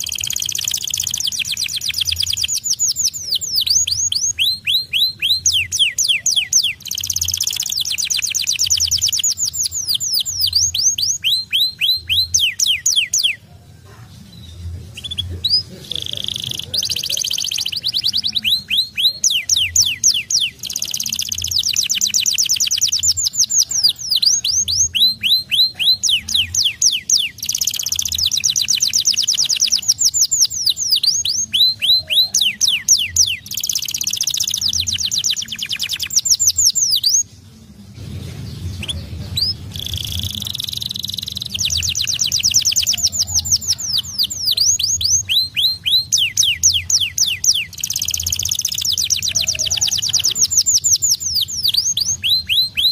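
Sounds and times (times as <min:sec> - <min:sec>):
canary singing fast trills: 0:00.0 - 0:52.9.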